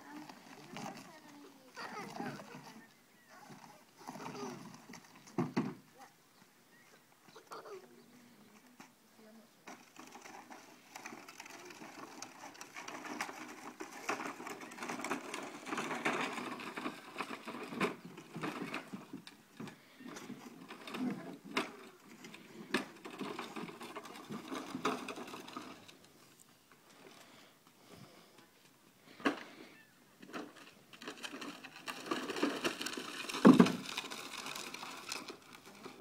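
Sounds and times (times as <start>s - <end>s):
toy wheels rolling over gravel: 0.0s - 36.0s.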